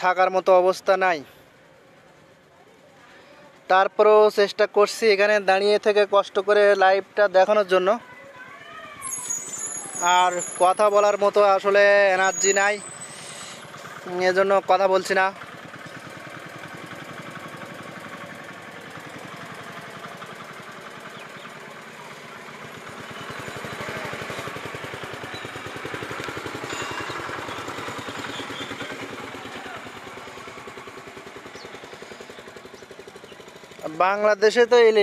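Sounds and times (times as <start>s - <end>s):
small engine running steadily: 4.6s - 35.0s.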